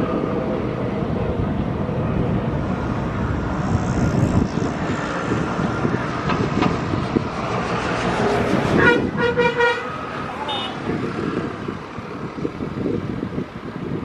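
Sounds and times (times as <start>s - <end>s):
train wheels rumbling on rail: 0.0s - 13.2s.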